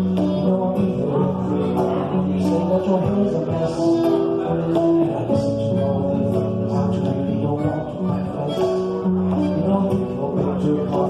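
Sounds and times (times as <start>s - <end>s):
plucked guitar: 0.0s - 11.0s.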